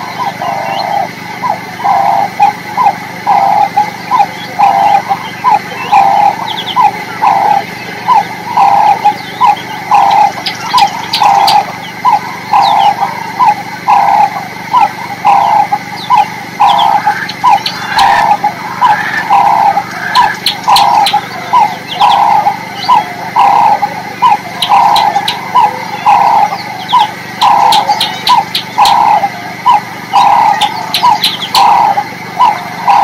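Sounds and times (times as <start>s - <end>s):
high bird chirps: 0.0s - 33.0s
rhythmic animal calls: 0.0s - 33.0s.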